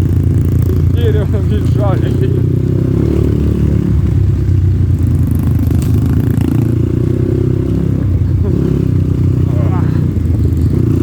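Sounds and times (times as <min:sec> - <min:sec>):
motorcycle rattling: 0:00.0 - 0:11.0
off-road motorcycle engine: 0:00.0 - 0:11.0.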